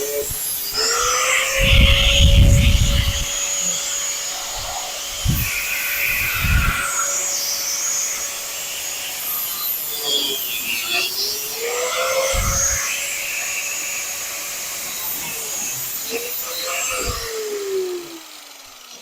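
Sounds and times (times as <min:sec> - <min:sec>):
power tool cutting sheet metal: 0:00.0 - 0:19.0.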